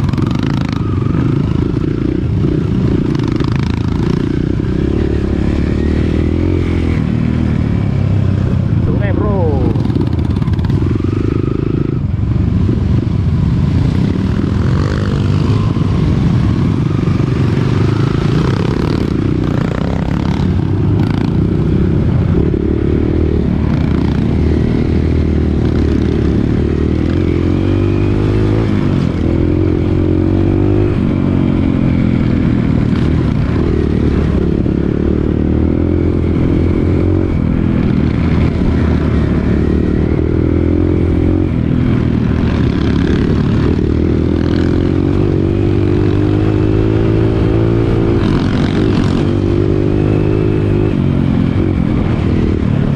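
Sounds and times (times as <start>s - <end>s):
dirt bike engine revving: 0.0s - 12.1s, 13.8s - 52.6s.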